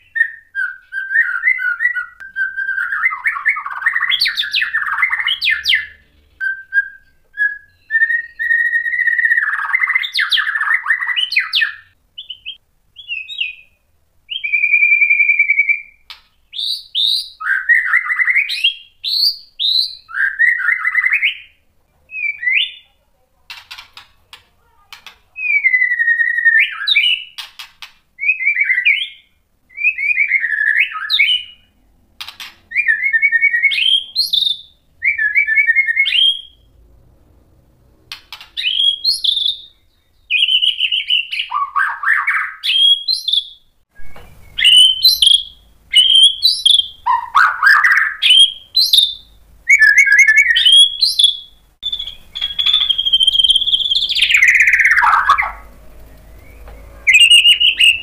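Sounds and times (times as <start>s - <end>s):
bird singing fluty whistles: 0.0s - 22.8s, 25.4s - 27.4s, 28.2s - 31.7s, 32.7s - 36.7s, 38.6s - 58.0s.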